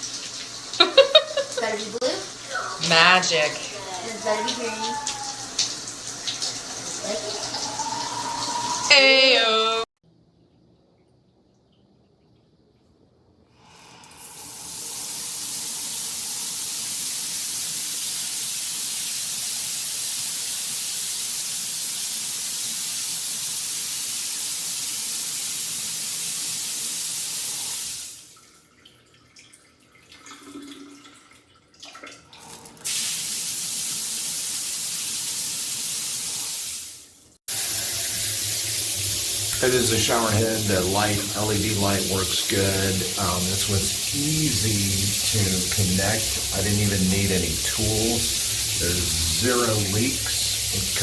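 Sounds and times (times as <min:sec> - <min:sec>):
shower head spraying water: 0:00.0 - 0:09.3, 0:14.2 - 0:28.1, 0:32.9 - 0:51.0.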